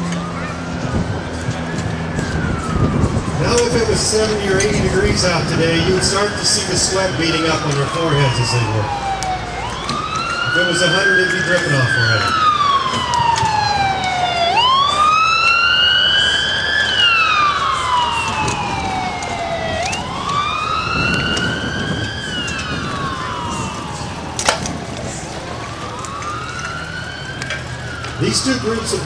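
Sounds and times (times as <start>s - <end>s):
emergency siren wailing: 0.0s - 29.0s.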